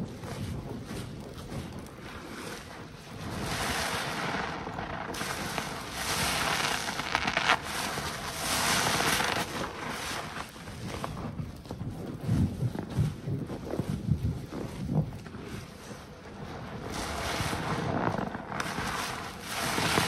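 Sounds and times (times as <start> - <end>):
sponge squishing in soapy foam: 0.0 - 20.0.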